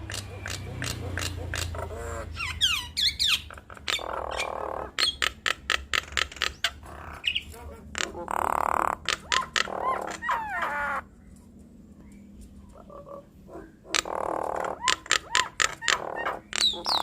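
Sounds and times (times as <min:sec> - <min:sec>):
mynas calling: 0:00.0 - 0:11.2, 0:12.6 - 0:17.0.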